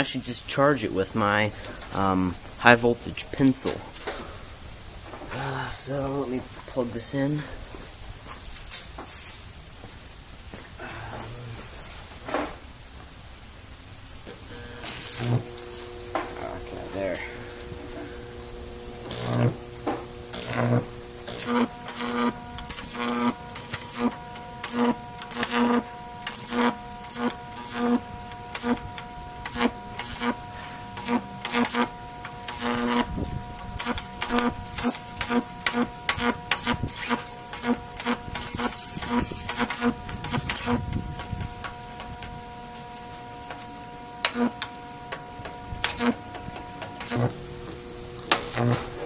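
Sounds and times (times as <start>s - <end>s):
electrical hum: 0.0s - 49.0s
high voltage arcs crackling: 0.0s - 49.0s.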